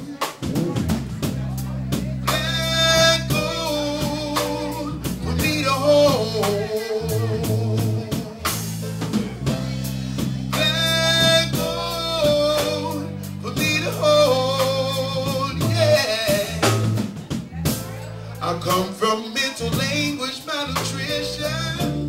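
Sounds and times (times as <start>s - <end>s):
man singing into a microphone: 0.0s - 17.2s, 18.4s - 22.0s
drum kit beat: 0.0s - 22.0s
electric keyboard chords: 0.0s - 22.0s.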